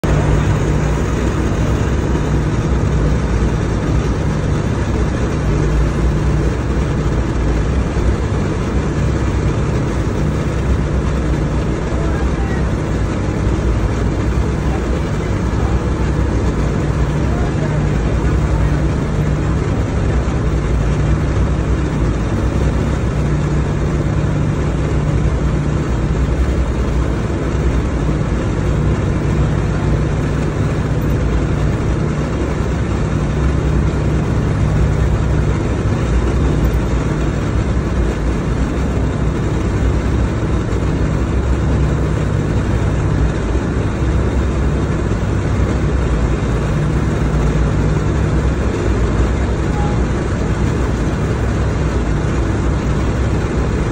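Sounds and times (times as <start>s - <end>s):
propeller plane engines droning: 0.0s - 53.9s.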